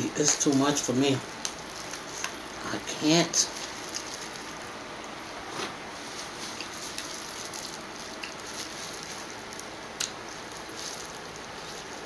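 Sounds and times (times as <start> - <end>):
electric fan whooshing: 0.0 - 12.0.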